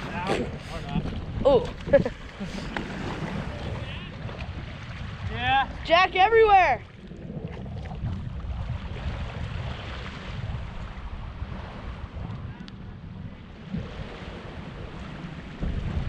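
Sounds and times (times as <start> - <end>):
ocean waves: 0.0 - 16.0
wind buffeting microphone: 0.0 - 16.0.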